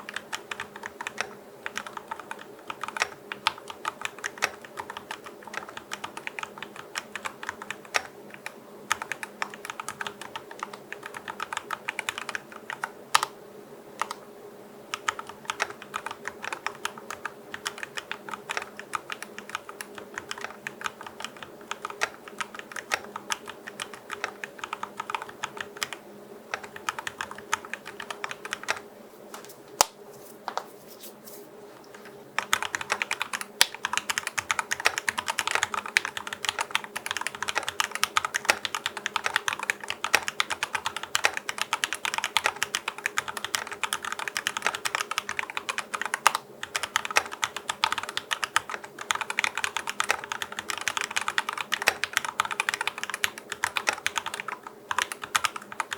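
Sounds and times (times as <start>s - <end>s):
mechanical keyboard typing: 0.0s - 13.3s, 14.9s - 28.9s, 32.4s - 55.9s.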